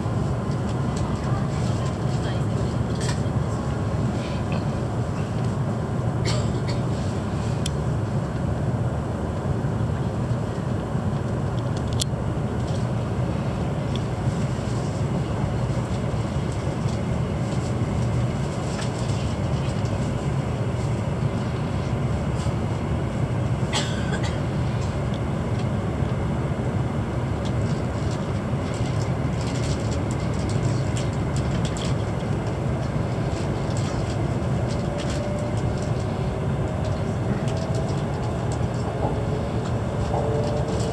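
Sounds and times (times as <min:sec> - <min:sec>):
train interior rumble: 0:00.0 - 0:40.9.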